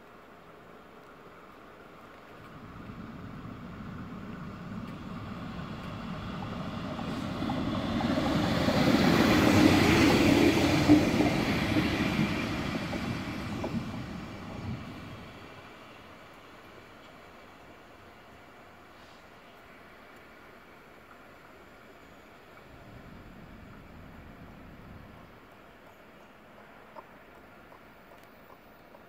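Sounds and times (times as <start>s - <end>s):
diesel railcar passing: 0.2s - 29.0s.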